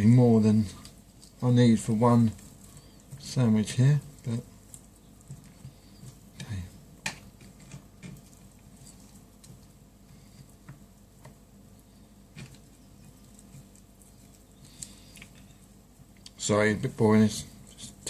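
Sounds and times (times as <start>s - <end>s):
soft sticky handling noises: 0.0s - 18.0s.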